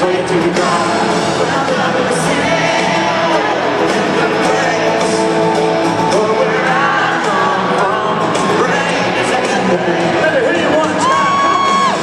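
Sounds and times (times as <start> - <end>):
live country band playing: 0.0 - 12.0.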